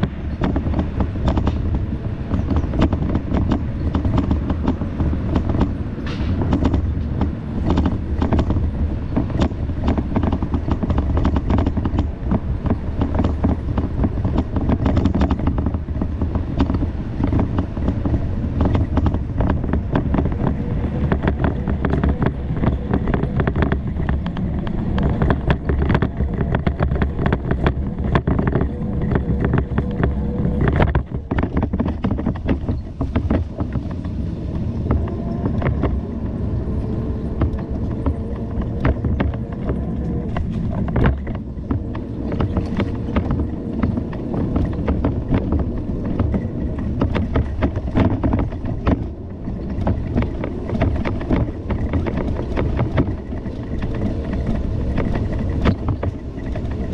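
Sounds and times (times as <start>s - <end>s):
bicycle tyres rumbling: 0.0s - 56.9s
bike knocks and rattles: 0.0s - 56.9s
wind on microphone: 0.0s - 56.9s.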